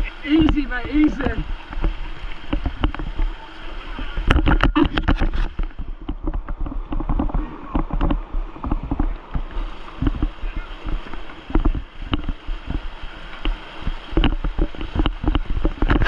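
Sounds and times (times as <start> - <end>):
paddles splashing water: 0.0 - 16.0.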